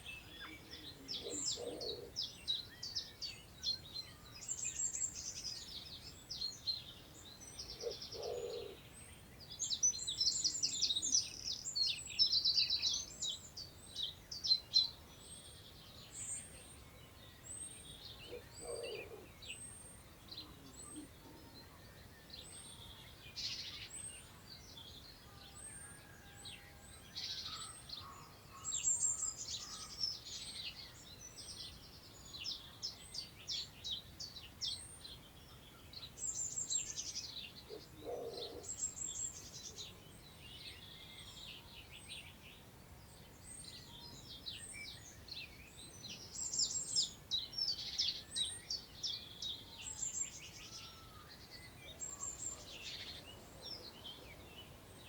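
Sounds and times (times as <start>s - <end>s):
songbirds singing: 0.0s - 55.0s
wind through long grass: 0.0s - 55.0s.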